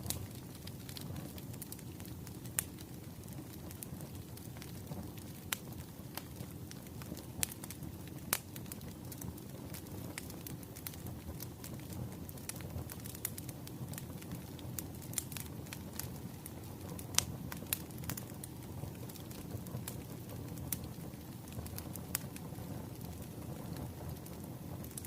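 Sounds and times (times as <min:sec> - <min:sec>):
bonfire crackling and popping: 0:00.0 - 0:25.0.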